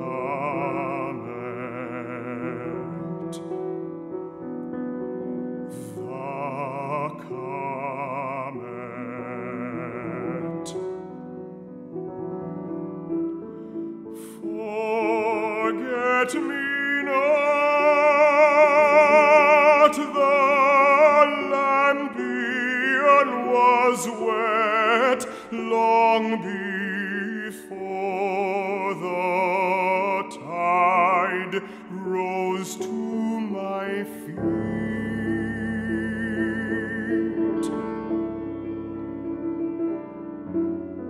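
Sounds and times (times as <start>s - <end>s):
baritone singing with vibrato: 0.0s - 3.7s, 5.7s - 11.2s, 14.1s - 38.4s
piano accompaniment: 0.0s - 41.0s.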